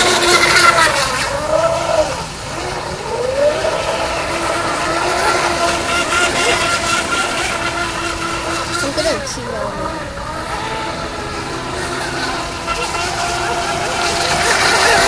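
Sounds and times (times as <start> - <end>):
model boat motor whine: 0.0 - 15.0.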